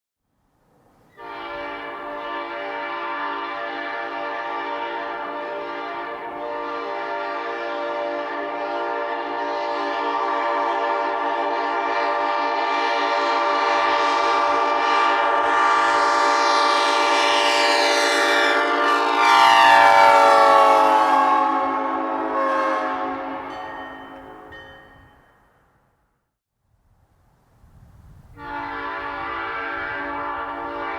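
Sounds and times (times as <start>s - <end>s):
locomotive air horn chord: 1.1s - 25.1s, 28.4s - 30.9s.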